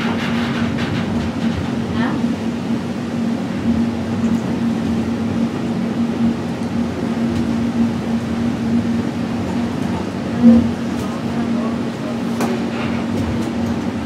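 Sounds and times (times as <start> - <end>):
people-mover car running hum: 0.0 - 14.0.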